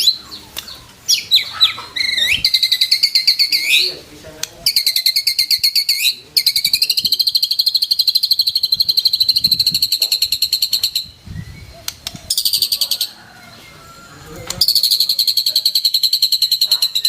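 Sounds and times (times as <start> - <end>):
bird rapid trill: 0.0 - 4.0, 4.6 - 13.4, 14.6 - 17.0.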